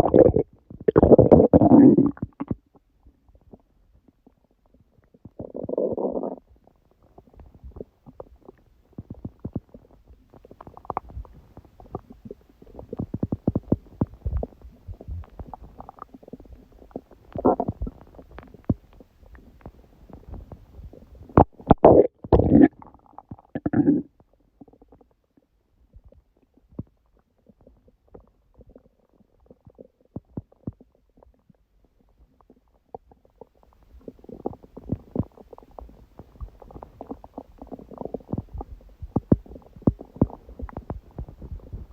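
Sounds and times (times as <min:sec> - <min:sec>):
stomach growling and gurgling: 0:00.0 - 0:41.9.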